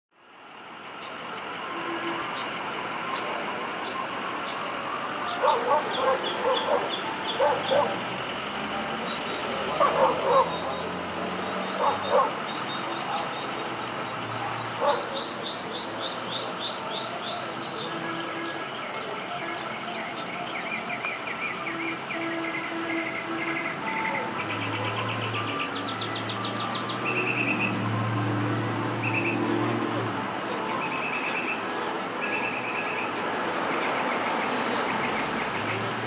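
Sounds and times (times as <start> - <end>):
birds chirping: 2.1 - 29.9, 30.6 - 36.0.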